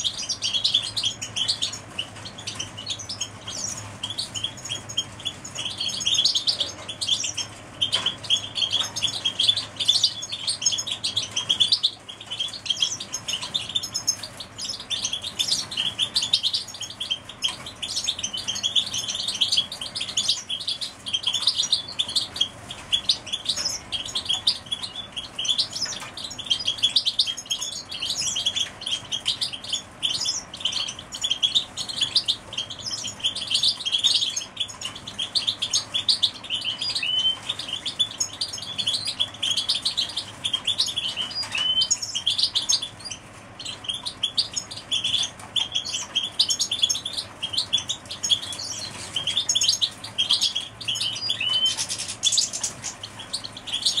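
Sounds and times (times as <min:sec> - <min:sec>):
canaries chirping and singing: 0:00.0 - 0:54.0.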